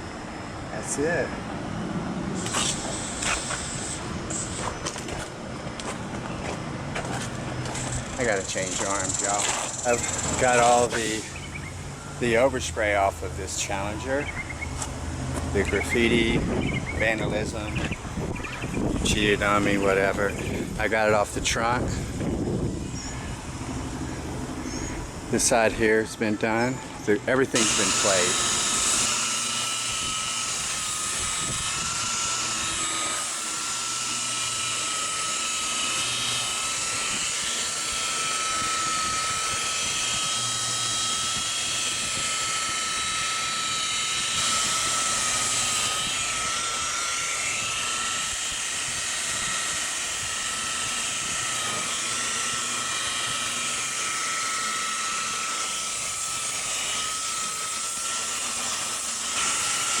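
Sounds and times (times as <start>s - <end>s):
power tool motor whining: 0.0s - 60.0s.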